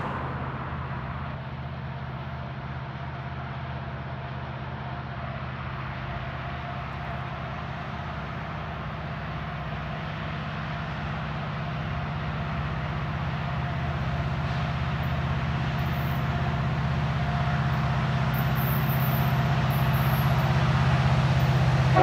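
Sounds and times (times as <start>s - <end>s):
diesel locomotive engines droning: 0.0s - 22.0s.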